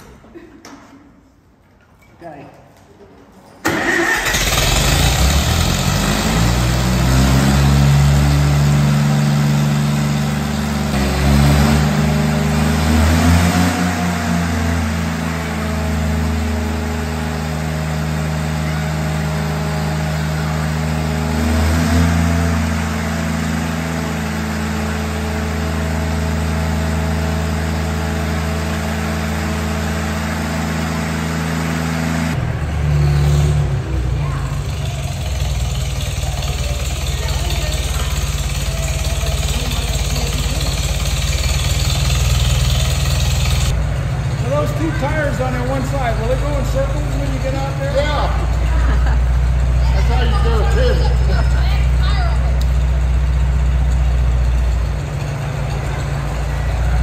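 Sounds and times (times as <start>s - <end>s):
tractor engine idling: 3.6s - 12.8s, 14.2s - 57.0s.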